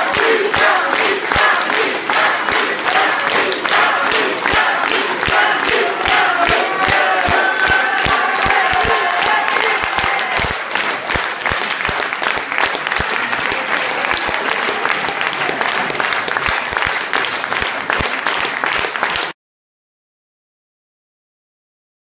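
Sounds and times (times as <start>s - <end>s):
crowd applauding: 0.0s - 19.4s.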